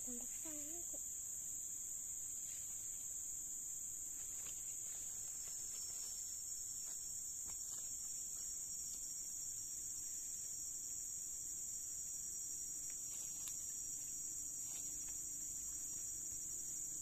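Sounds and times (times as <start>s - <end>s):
insect chorus drone: 0.0s - 17.0s
thin high insect tone: 0.0s - 17.0s.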